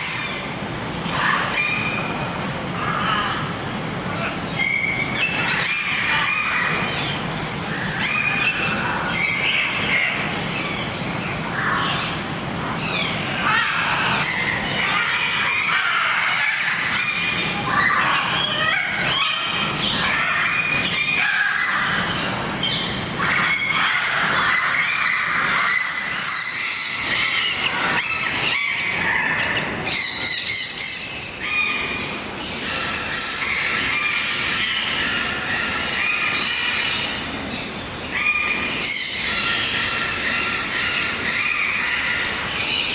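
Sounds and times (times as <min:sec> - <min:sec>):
birds squawking and calling: 0:00.0 - 0:42.9.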